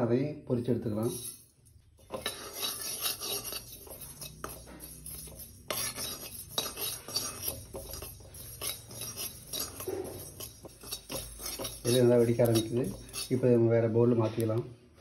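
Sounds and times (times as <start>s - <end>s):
metal spoon scraping seeds in pan: 0.9s - 13.8s.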